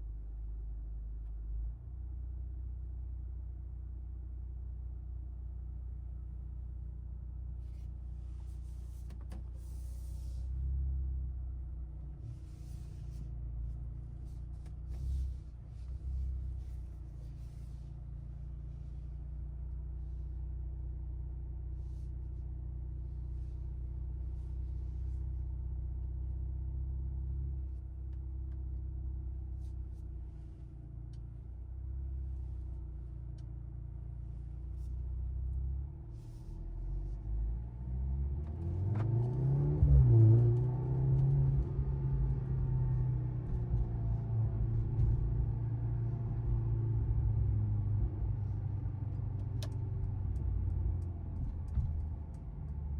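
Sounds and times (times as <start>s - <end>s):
car engine droning: 7.6s - 52.9s.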